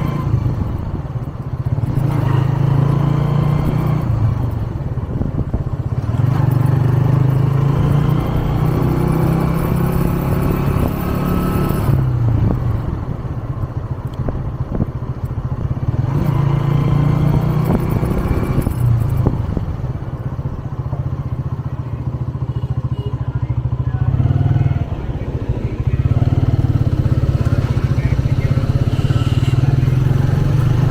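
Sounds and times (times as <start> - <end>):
motorcycle engine under throttle: 0.0 - 30.9.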